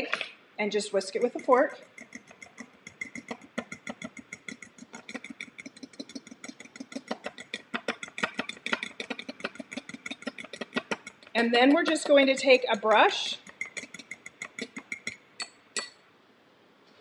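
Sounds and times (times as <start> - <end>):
fork whisking egg in a bowl: 0.0 - 16.0.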